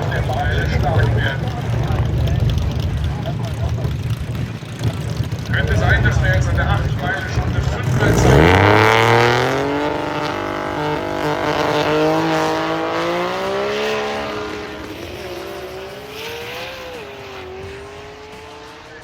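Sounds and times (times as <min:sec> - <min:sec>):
drag racing cars at full throttle: 0:00.0 - 0:19.0.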